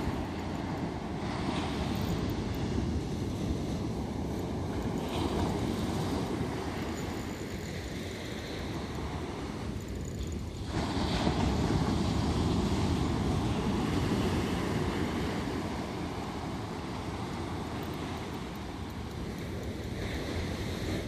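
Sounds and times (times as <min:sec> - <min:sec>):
surf washing onto beach: 0:00.0 - 0:07.0, 0:10.6 - 0:21.0
wind rumbling on microphone: 0:00.0 - 0:21.0.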